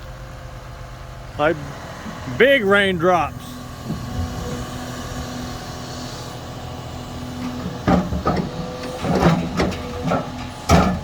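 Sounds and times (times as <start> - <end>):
skid steer engine running: 0.0 - 11.0.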